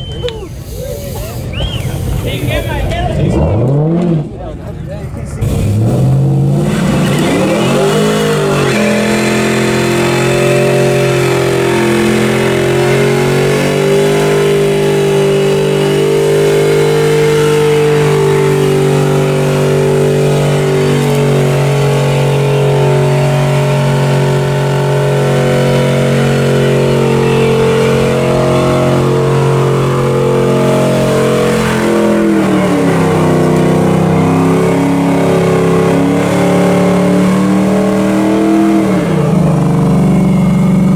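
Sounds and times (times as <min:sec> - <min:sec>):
vehicle engine revving: 0:01.4 - 0:40.9.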